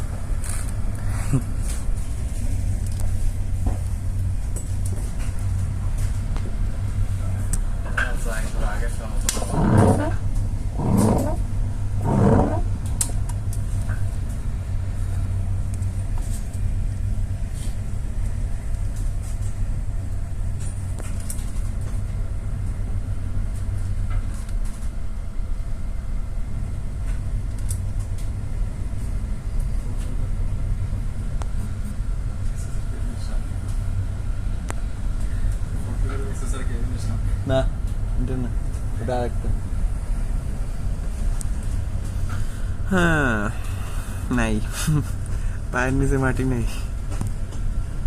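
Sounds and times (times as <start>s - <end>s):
low engine drone: 0.0s - 48.0s.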